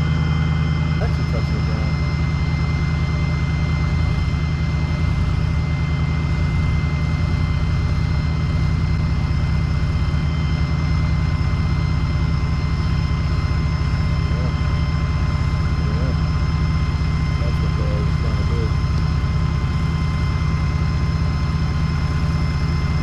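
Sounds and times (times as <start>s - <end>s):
faint high whine: 0.0s - 23.0s
heavy engine idling: 0.0s - 23.0s.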